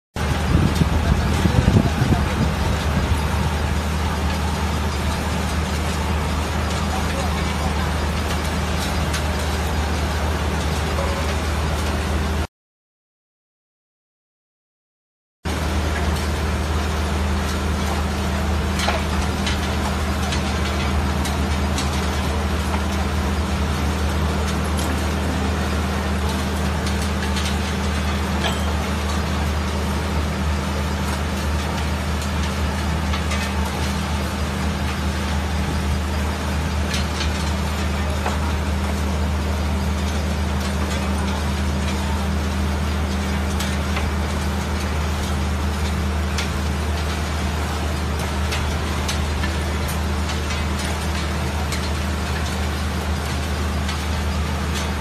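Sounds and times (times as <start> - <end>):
constant broad rushing noise: 0.2 - 12.5, 15.5 - 55.0
low machine hum: 0.2 - 12.5, 15.5 - 55.0.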